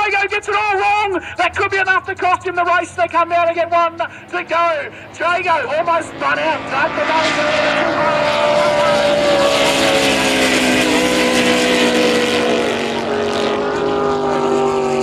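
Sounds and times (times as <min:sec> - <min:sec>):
powerboat engines droning: 0:00.0 - 0:15.0.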